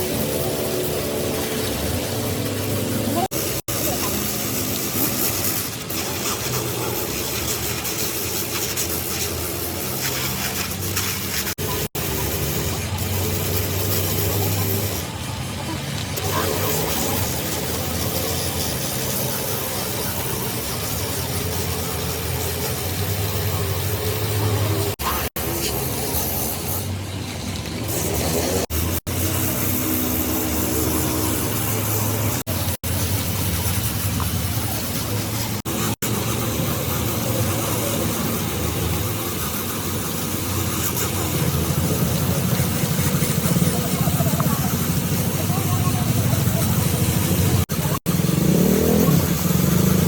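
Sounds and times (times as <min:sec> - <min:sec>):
engine running: 0:00.0 - 0:50.0.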